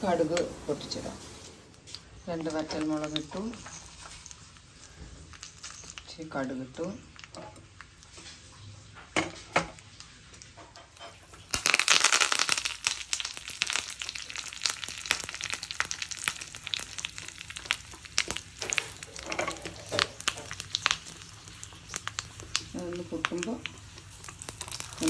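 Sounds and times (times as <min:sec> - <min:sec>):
hot oil sizzling and spitting: 0:00.4 - 0:25.0.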